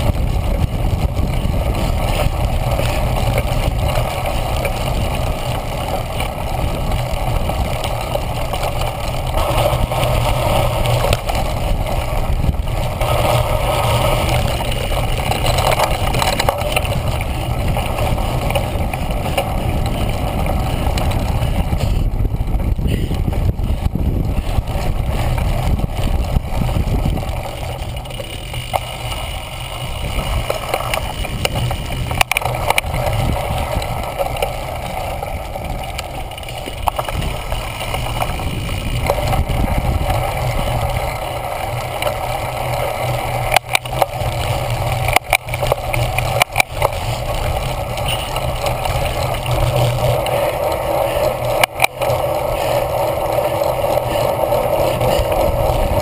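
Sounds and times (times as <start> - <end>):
bike tyres rumbling on grass: 0.0 - 56.0
wind buffeting microphone: 0.0 - 56.0.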